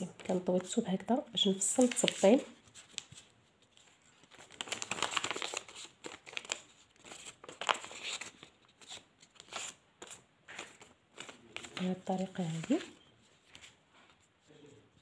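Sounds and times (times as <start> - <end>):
paper rustling and crinkling: 1.6 - 14.4.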